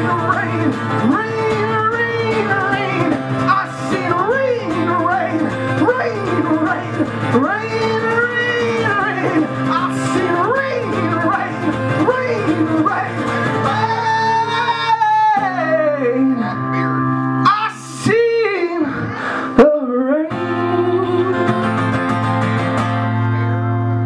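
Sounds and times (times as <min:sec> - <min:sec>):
man singing: 0:00.0 - 0:22.1
acoustic guitar strumming: 0:00.0 - 0:24.0.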